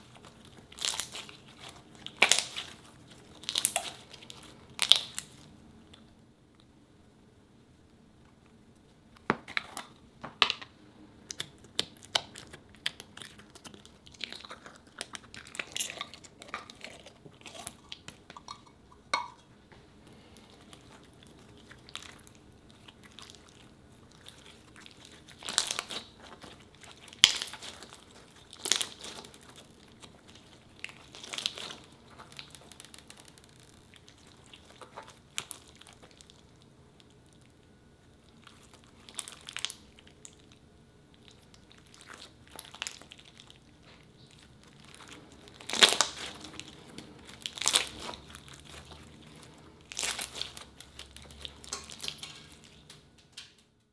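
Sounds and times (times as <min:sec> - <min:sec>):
slime crackling and squelching: 0:00.0 - 0:06.1, 0:11.2 - 0:19.2, 0:20.0 - 0:53.6.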